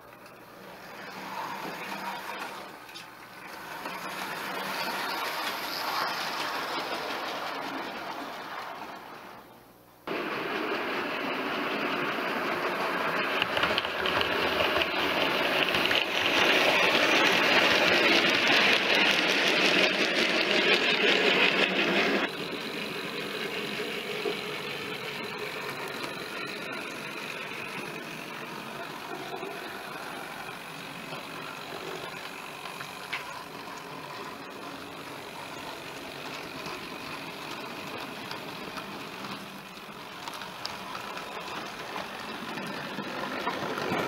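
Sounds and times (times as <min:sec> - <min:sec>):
model train running on track: 0:00.0 - 0:44.0.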